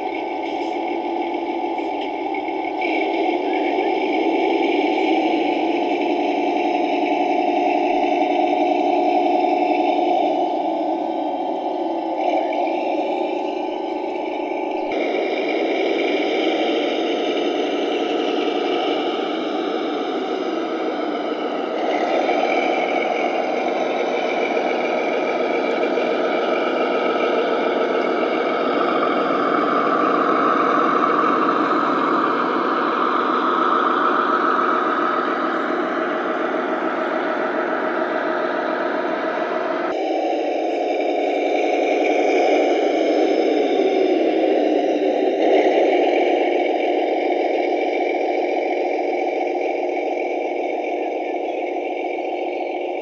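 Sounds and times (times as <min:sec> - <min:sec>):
model diesel locomotives running: 0:00.0 - 0:53.0.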